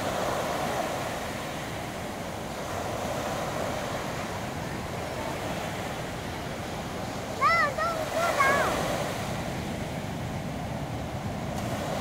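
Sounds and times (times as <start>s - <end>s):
surf breaking on a beach: 0.0s - 12.0s
wind blowing: 0.0s - 12.0s.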